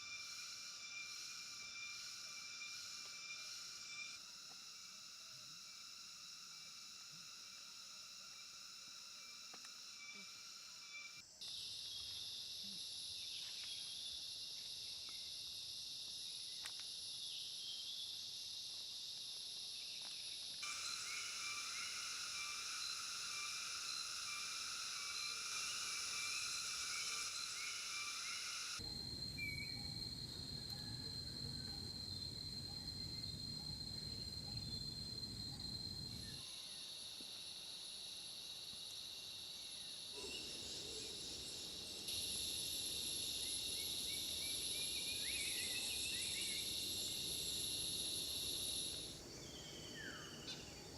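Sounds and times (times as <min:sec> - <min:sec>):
insect chorus droning: 0:00.0 - 0:50.9.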